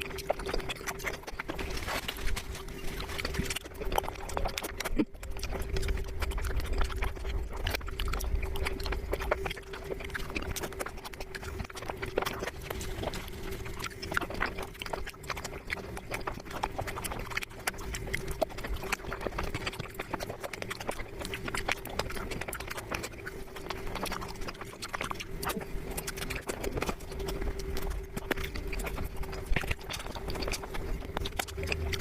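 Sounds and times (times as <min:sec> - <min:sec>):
faint steady hum: 0:00.0 - 0:32.0
person chewing crunchy food: 0:00.0 - 0:32.0.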